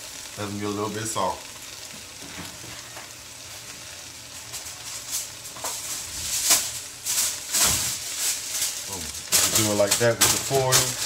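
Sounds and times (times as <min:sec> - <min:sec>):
food sizzling in a skillet: 0:00.0 - 0:11.0
sharp crackles: 0:00.0 - 0:11.0.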